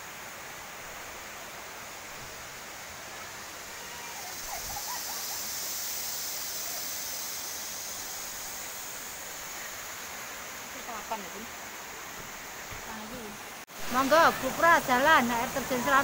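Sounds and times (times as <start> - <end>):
rocky stream flowing: 0.0 - 16.0.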